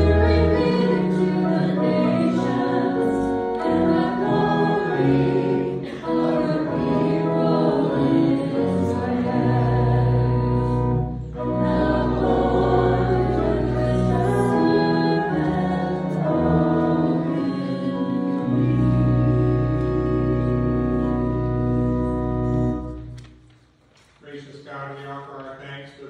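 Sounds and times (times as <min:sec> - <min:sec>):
voices singing: 0:00.0 - 0:20.9
church organ playing hymn chords: 0:00.0 - 0:23.4.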